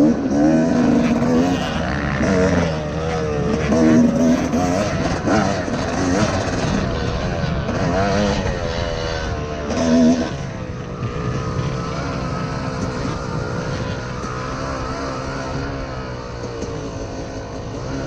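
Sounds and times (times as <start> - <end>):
two-stroke dirt bike engine: 0.0 - 18.0
wind rumble: 0.1 - 18.0.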